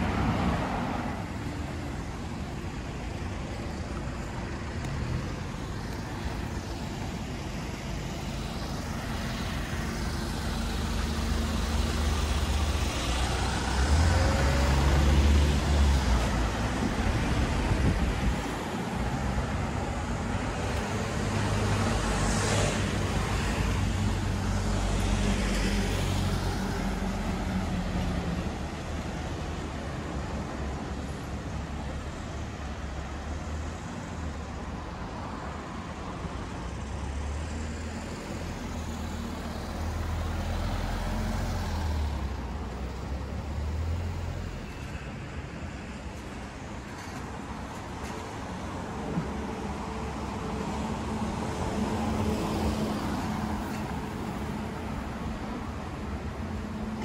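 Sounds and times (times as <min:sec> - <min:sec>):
vehicle engines humming: 0:00.0 - 0:57.0.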